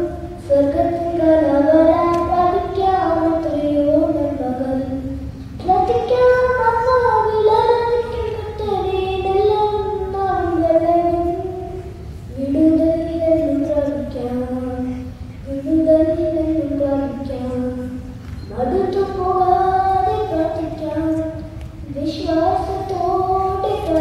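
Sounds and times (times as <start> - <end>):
boy singing into a microphone: 0.0 - 24.0.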